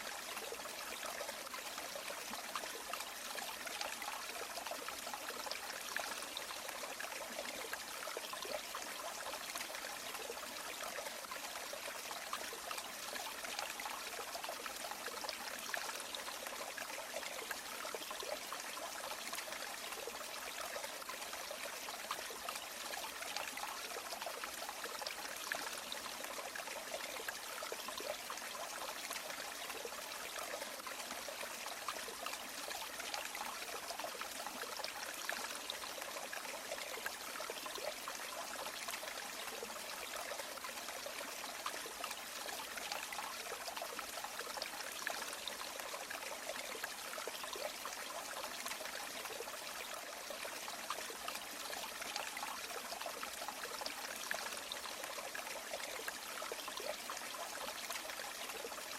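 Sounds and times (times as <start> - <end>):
river water flowing: 0.0 - 58.9.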